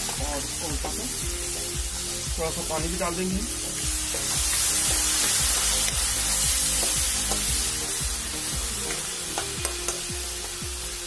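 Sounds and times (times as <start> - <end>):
background music with beat: 0.0 - 11.0
sauce sizzling in hot oil: 0.0 - 11.0.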